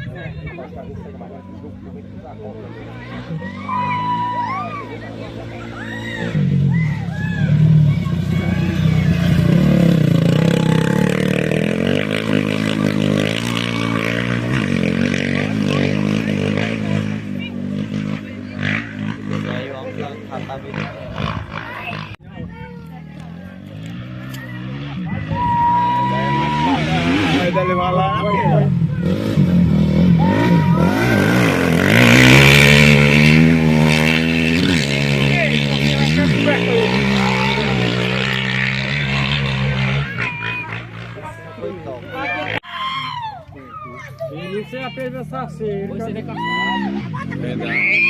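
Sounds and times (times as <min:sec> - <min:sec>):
motorcycle engine running hard: 0:00.0 - 0:42.6.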